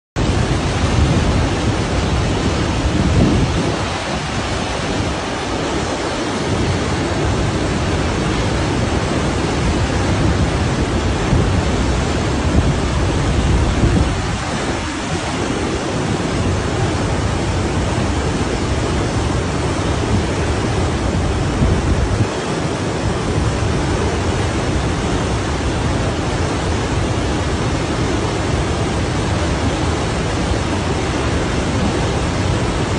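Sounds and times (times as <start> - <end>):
flood water rushing: 0.2 - 32.9
heavy low rumble: 6.2 - 32.9.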